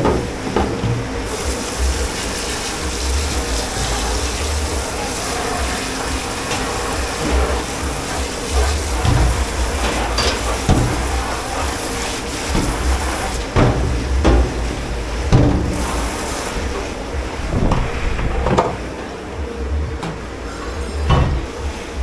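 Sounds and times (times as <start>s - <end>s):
water running into a sink: 0.0s - 18.9s.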